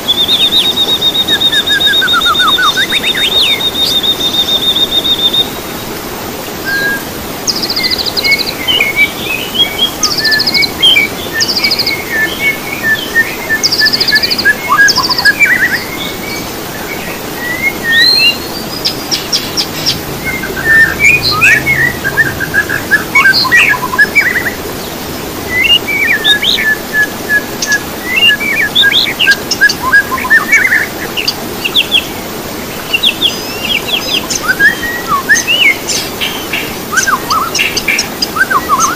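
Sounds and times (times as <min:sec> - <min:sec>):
songbirds chirping and singing: 0:00.0 - 0:05.6, 0:06.7 - 0:38.9
steady low hiss: 0:00.0 - 0:38.9.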